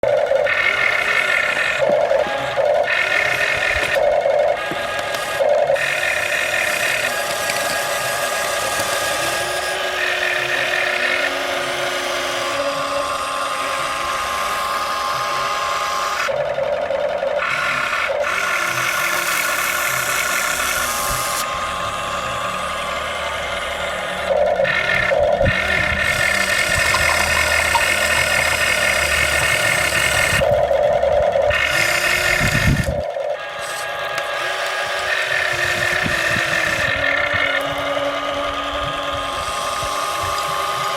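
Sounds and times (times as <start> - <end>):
small electric motors whining: 0.0 - 40.9.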